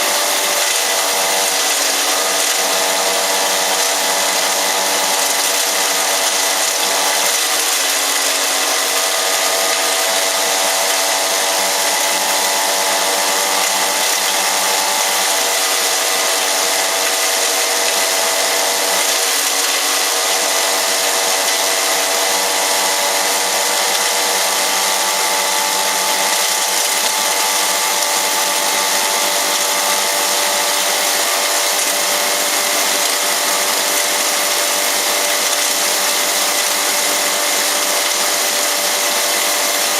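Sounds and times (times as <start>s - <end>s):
grinder motor whine: 0.0s - 39.9s.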